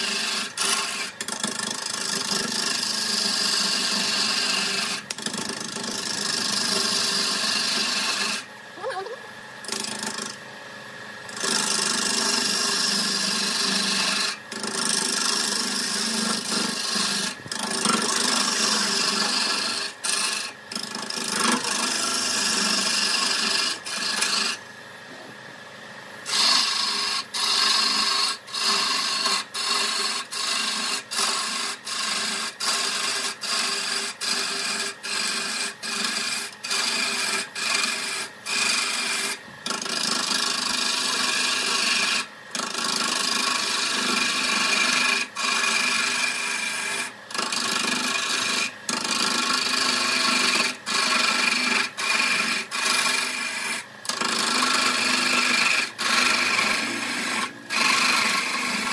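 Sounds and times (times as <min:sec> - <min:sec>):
lathe tool rasping wood: 0:00.0 - 0:08.5, 0:09.6 - 0:10.4, 0:11.3 - 0:24.6, 0:26.3 - 0:58.9.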